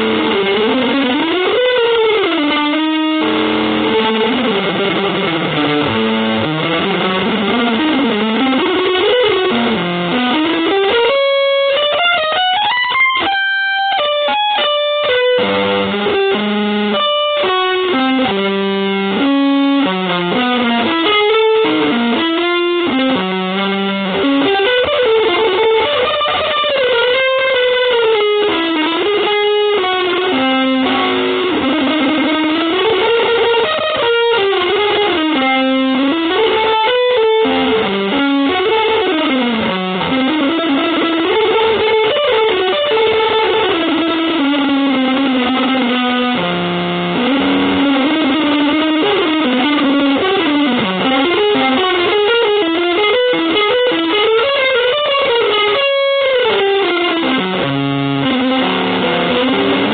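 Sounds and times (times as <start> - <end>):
electric guitar melody: 0.0 - 59.9.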